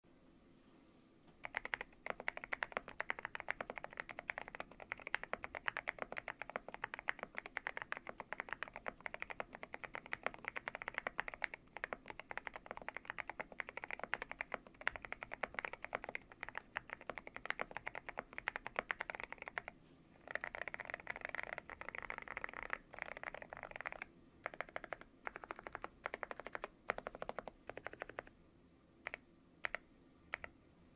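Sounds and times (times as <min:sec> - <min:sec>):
mechanical keyboard typing: 0:01.4 - 0:28.3, 0:29.0 - 0:30.5.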